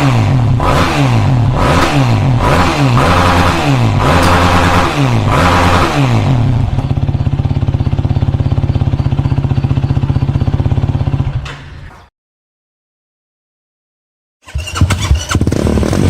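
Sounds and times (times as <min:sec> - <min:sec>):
engine revving and idling: 0:00.0 - 0:11.4, 0:14.4 - 0:16.0.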